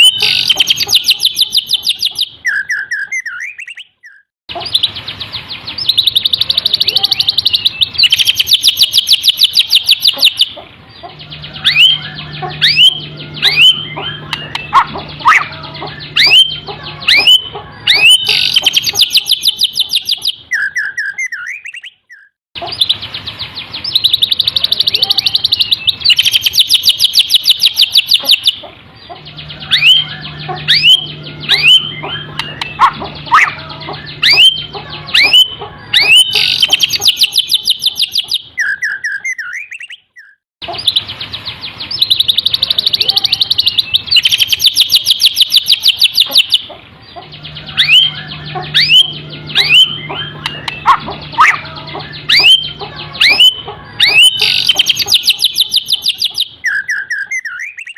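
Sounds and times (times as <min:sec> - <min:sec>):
bird singing whistles and trills: 0:00.0 - 0:57.9.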